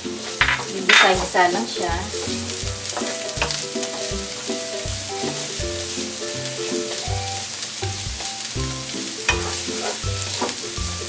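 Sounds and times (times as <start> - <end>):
onion and garlic sizzling in oil: 0.0 - 11.0
soft background music: 0.0 - 11.0.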